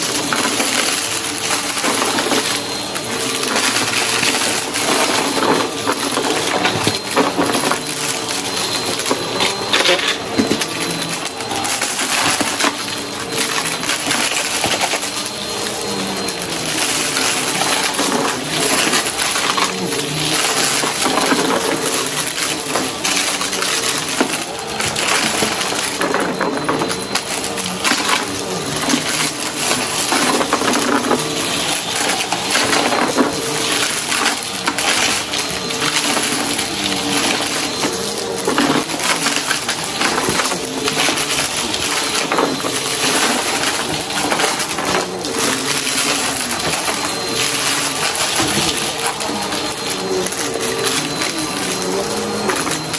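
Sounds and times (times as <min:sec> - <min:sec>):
debris crunching and rattling: 0:00.0 - 0:52.9
vacuum cleaner running: 0:00.0 - 0:52.9.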